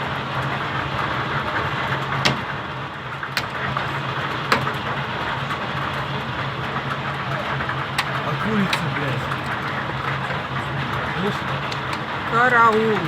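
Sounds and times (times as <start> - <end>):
heavy hail and rain: 0.0 - 13.0.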